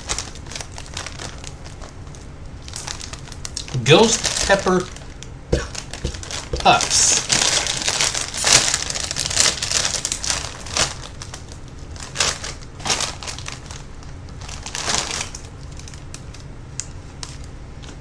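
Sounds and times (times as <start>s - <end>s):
snack bag crinkling: 0.0s - 18.0s.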